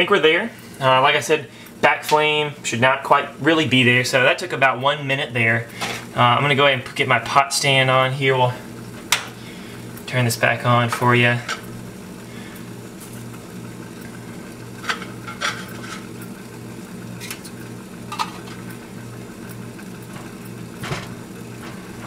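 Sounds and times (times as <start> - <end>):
alcohol stove burning with hiss: 0.0 - 22.0
steady low hum: 0.0 - 22.0.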